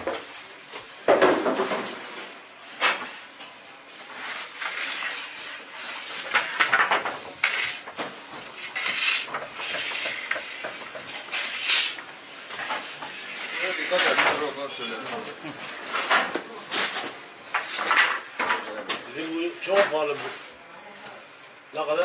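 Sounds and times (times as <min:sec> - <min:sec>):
scraping sounds: 0:00.8 - 0:20.6.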